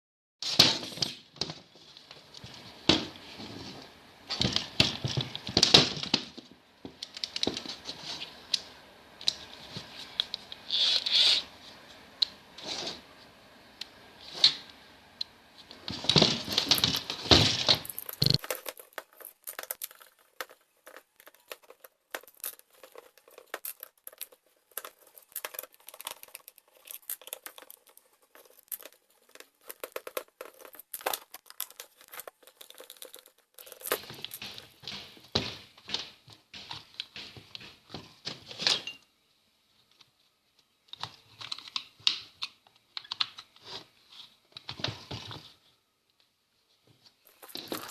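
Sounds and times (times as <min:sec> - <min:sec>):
rustling and crinkling: 0:00.4 - 0:12.0, 0:15.6 - 0:38.8, 0:39.7 - 0:47.9.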